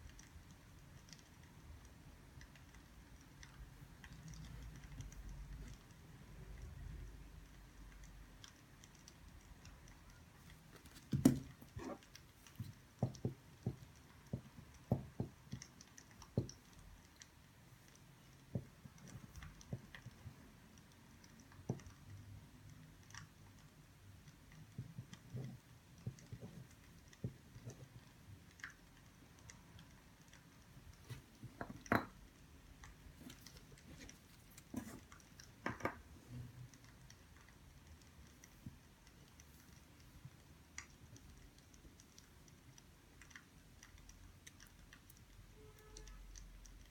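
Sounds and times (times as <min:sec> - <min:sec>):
faint taps and clicks: 0:07.9 - 0:46.9.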